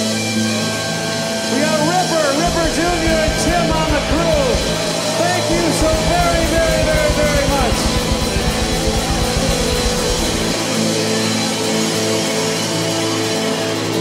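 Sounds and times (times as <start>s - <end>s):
live rock band playing: 0.0s - 14.0s
guitar chord ringing: 0.7s - 12.6s.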